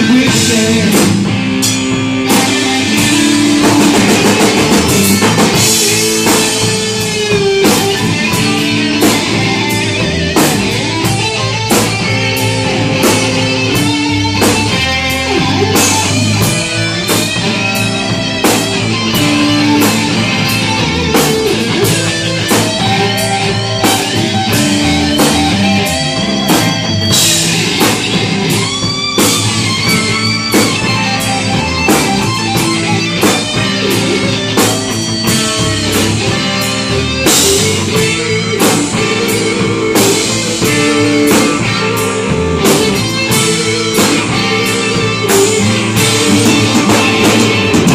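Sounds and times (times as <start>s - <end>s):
drum kit beat: 0.0s - 47.9s
electric bass: 0.0s - 47.9s
electric guitars: 0.0s - 47.9s.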